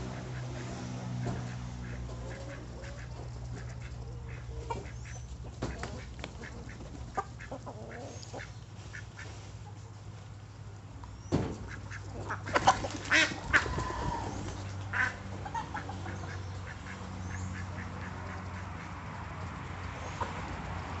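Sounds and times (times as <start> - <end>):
ducks quacking: 0.0 - 10.0, 11.6 - 20.4.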